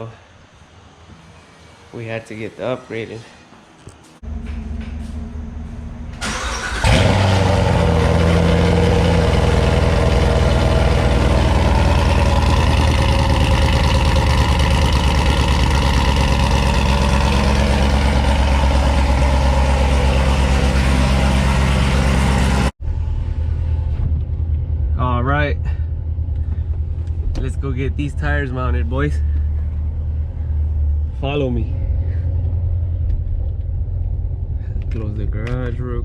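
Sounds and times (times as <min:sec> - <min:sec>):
car engine starting and idling: 0:04.2 - 0:35.9.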